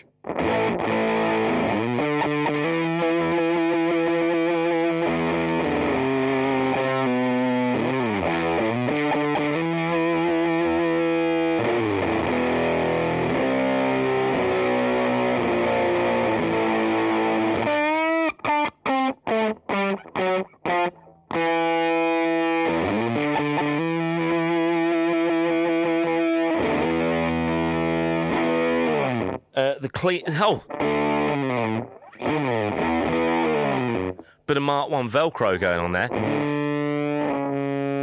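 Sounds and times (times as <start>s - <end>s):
fuzzy electric guitar chords: 0.0s - 34.5s, 35.4s - 38.0s.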